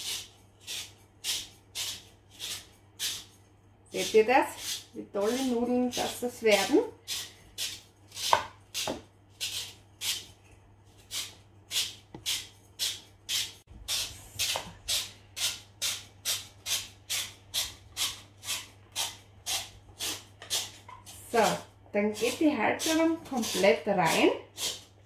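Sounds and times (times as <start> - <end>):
spiral vegetable cutter rasping: 0.0 - 3.4, 4.0 - 25.0.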